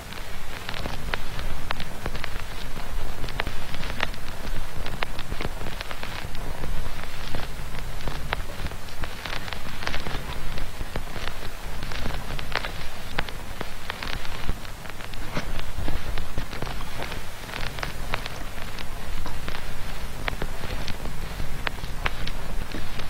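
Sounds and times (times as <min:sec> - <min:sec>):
rain-like crackle: 0:00.0 - 0:23.0.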